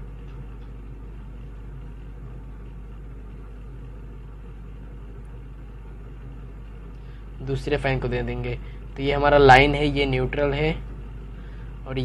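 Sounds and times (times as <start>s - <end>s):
low background hum and rumble: 0.0s - 12.0s.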